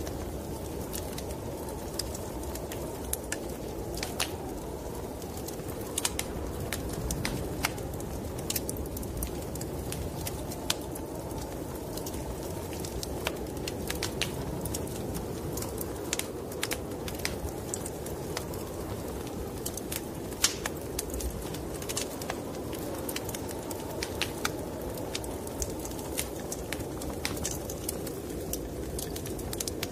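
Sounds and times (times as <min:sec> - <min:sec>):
snowstorm wind rumbling: 0:00.0 - 0:29.9
wood fire crackling: 0:00.0 - 0:29.9.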